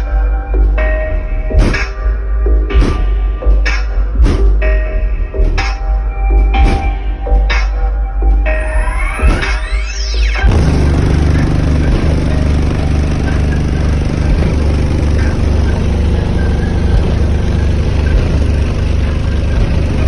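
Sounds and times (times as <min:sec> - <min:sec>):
heavy subwoofer bass: 0:00.0 - 0:20.0.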